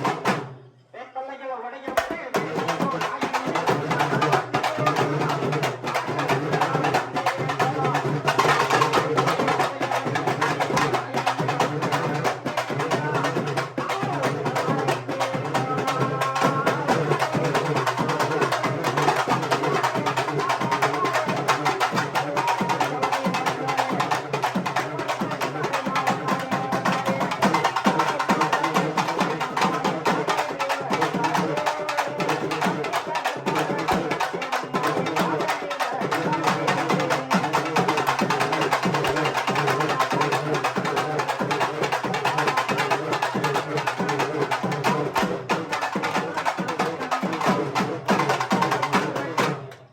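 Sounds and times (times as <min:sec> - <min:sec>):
fast drum ensemble: 0:00.0 - 0:00.6, 0:01.9 - 0:49.9.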